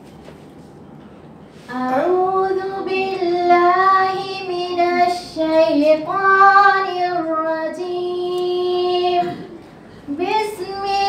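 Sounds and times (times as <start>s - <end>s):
woman chanting melodically: 1.7s - 11.0s.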